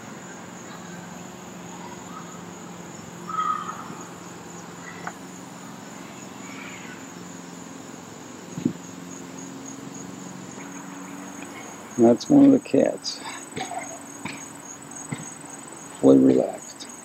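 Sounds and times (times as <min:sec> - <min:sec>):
high-pitched insect buzz: 0:00.0 - 0:17.0.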